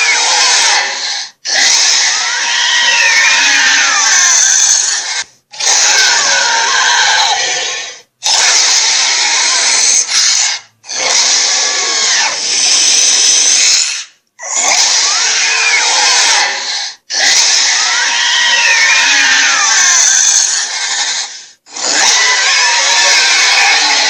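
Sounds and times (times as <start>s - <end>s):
dragon roars: 0.0s - 24.0s.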